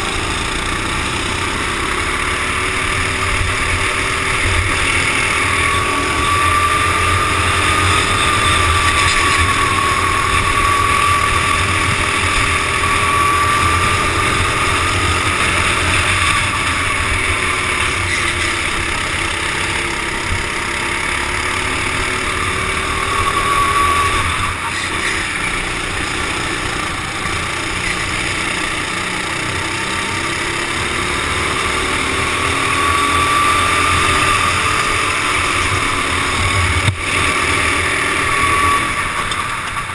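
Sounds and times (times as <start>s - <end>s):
kart engine whining: 0.0s - 39.9s.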